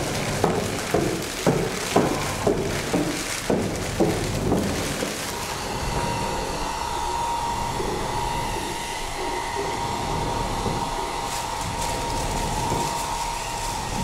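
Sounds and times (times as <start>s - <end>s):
faint crackles: 0.0s - 6.4s, 7.8s - 14.0s
rumbling drone with high tone: 2.0s - 14.0s.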